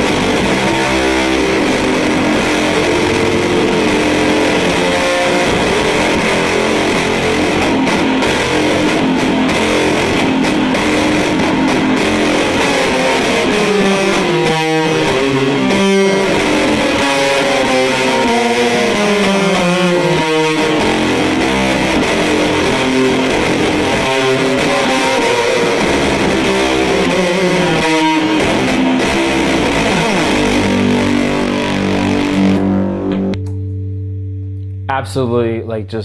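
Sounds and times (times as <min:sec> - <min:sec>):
fuzz electric guitar: 0:00.0 - 0:36.0.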